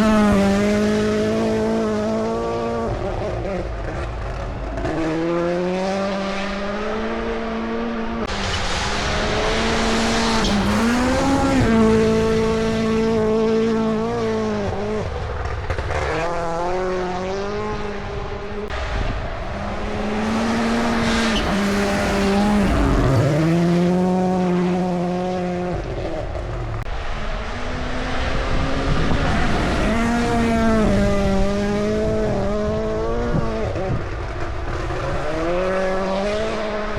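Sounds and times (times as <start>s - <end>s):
rally car engine revving: 0.0s - 36.9s.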